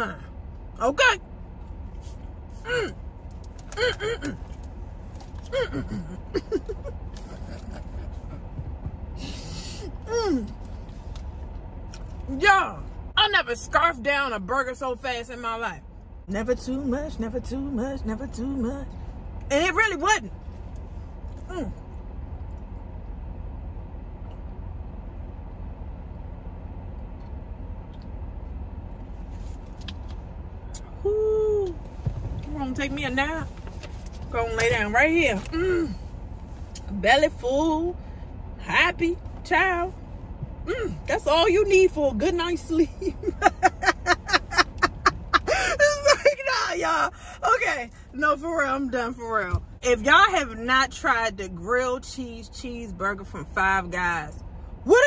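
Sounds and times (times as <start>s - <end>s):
car cabin rumble and hum: 0.0s - 55.0s.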